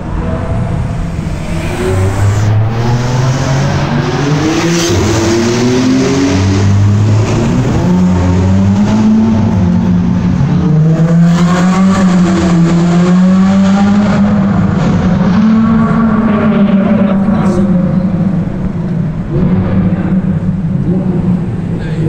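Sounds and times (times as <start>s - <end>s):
car engines revving in a tunnel: 0.0s - 22.0s.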